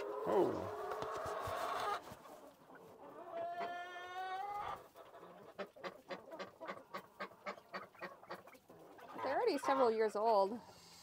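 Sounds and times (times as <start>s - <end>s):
chicken calling: 0.0s - 10.6s.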